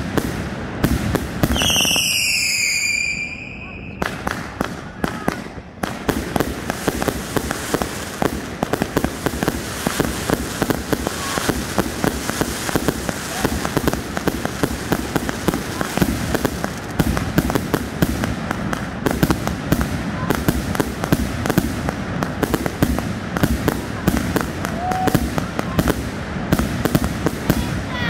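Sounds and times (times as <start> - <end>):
fireworks crackling and banging: 0.0 - 28.0.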